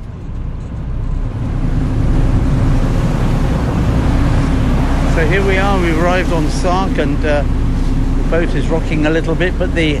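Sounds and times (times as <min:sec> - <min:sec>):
boat engine running: 0:00.0 - 0:10.0
water noise: 0:00.0 - 0:10.0
wind: 0:00.0 - 0:10.0.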